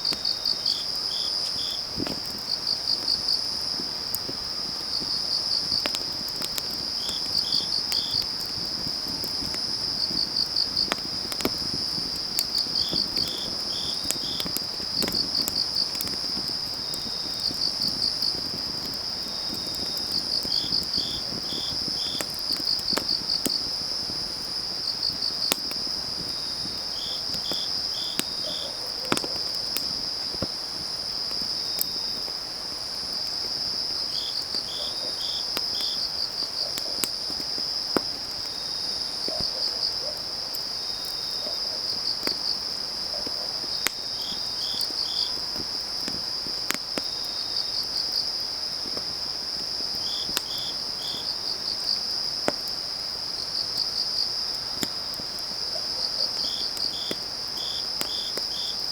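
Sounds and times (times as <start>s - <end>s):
insect chirps: 0.0s - 58.9s
wood fire crackling and popping: 0.0s - 58.9s.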